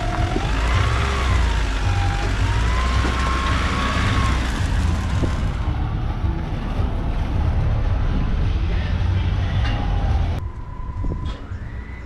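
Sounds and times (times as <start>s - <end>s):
low traffic rumble: 0.0s - 12.0s
vehicle engine whine: 0.0s - 12.0s.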